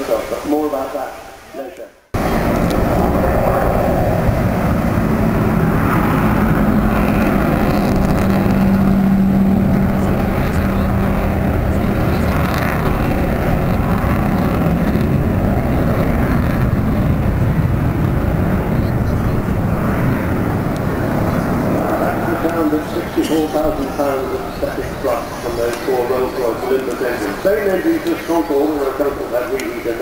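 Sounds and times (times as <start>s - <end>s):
jet aircraft noise: 0.0s - 30.0s.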